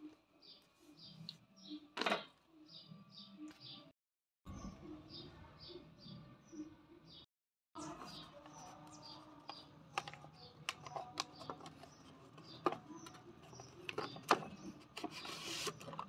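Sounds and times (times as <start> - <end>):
small birds chirping: 0.1 - 3.9, 4.5 - 16.0.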